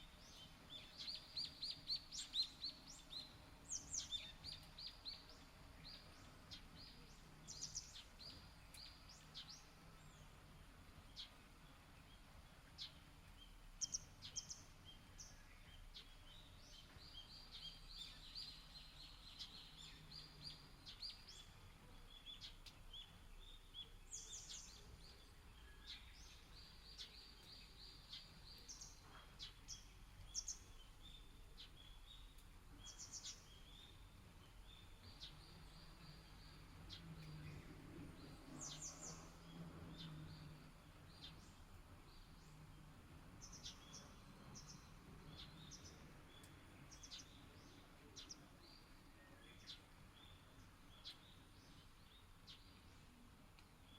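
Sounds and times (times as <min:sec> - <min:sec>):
background hiss: 0:00.0 - 0:53.9
small birds chirping: 0:00.0 - 0:53.9.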